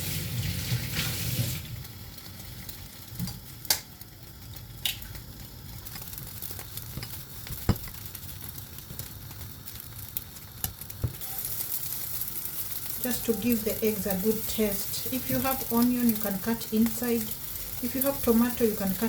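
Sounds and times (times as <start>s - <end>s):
omelette sizzling: 0.0s - 19.0s.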